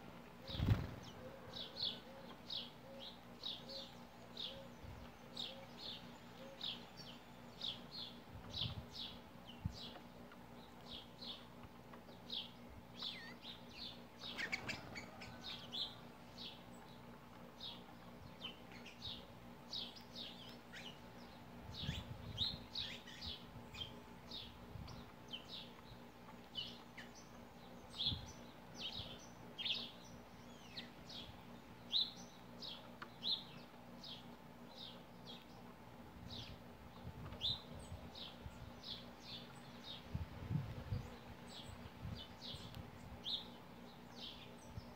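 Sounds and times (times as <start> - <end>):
sparrows chirping: 0.0 - 44.9.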